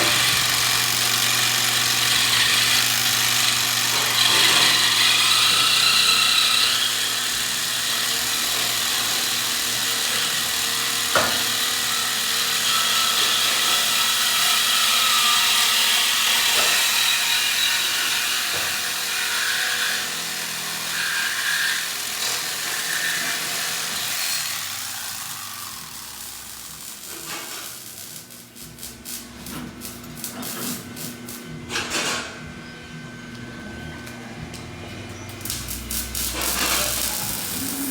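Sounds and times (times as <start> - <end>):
power tool whining: 0.0 - 17.6, 18.4 - 31.7, 32.4 - 37.9.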